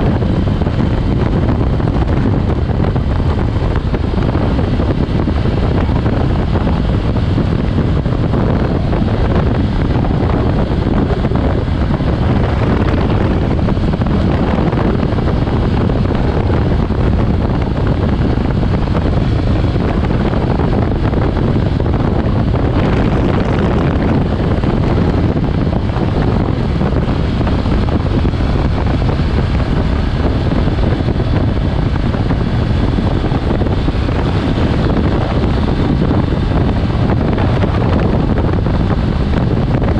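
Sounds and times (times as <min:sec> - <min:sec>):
motorcycle engine: 0:00.0 - 0:39.9
road noise: 0:00.0 - 0:39.9
wind buffeting microphone: 0:00.0 - 0:39.9.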